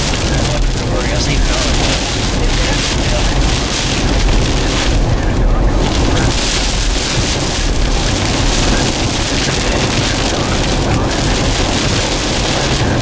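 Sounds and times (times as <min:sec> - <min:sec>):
rain and wind on moving car: 0:00.0 - 0:13.0.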